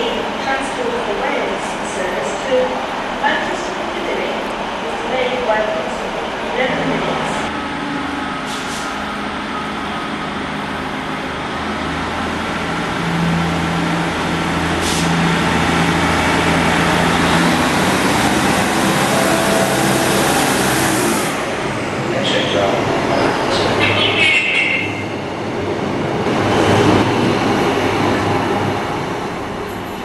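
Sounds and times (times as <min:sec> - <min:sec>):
diesel train engine hum: 0:00.0 - 0:30.0
train rolling noise: 0:00.0 - 0:30.0.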